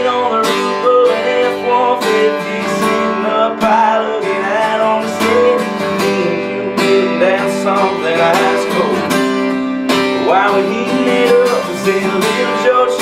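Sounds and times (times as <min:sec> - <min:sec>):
acoustic guitar strumming: 0:00.0 - 0:13.0
person singing country song: 0:00.0 - 0:13.0.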